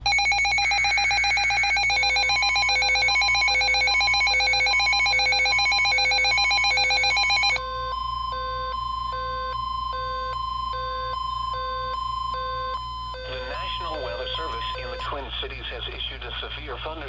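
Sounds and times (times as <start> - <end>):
electronic multi-tone alarm: 0.0 - 15.2.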